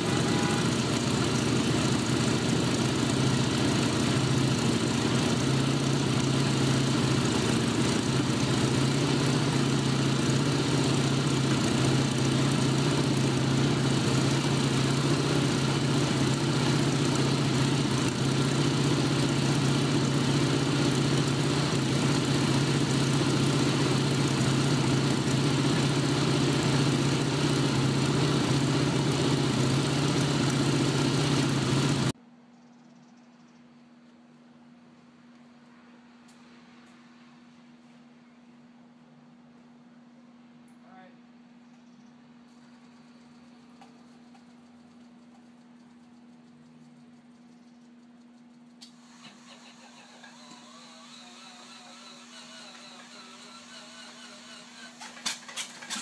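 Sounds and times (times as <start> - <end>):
propeller aircraft engine idling: 0.0 - 32.2, 42.5 - 56.0.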